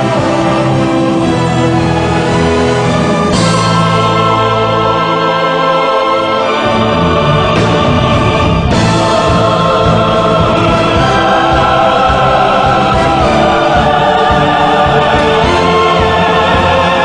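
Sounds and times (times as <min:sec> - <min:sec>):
choir singing: 0:00.0 - 0:17.0
orchestral accompaniment: 0:00.0 - 0:17.0.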